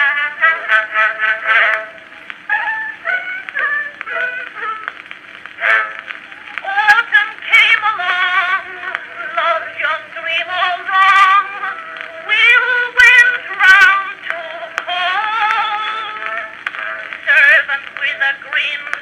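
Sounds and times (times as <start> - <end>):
record clicks: 0.0 - 19.0
woman singing with vibrato: 0.0 - 19.0.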